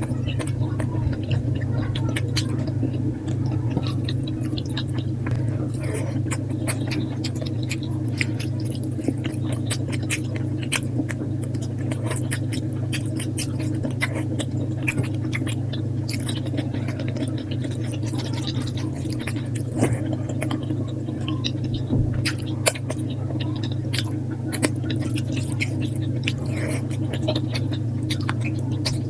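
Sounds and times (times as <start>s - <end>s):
steady low hum: 0.0s - 29.0s
wet chewing and lip-smacking: 0.0s - 29.0s.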